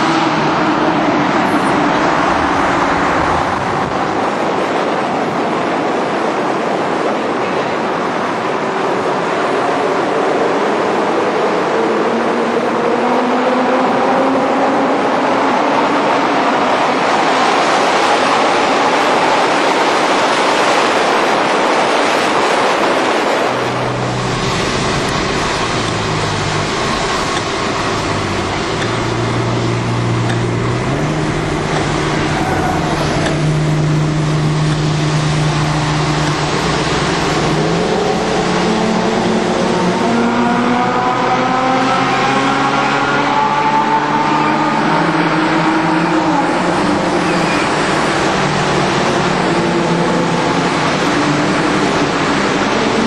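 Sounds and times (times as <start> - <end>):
road roar in a tunnel: 0.0 - 53.0
sports car engines revving: 0.0 - 53.0.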